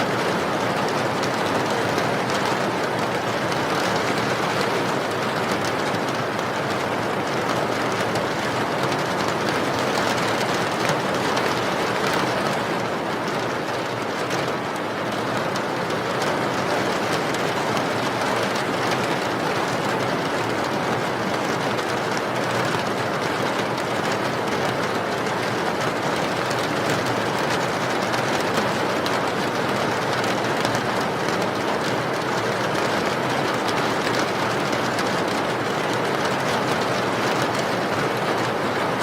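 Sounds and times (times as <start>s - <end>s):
heavy rain: 0.0s - 39.0s.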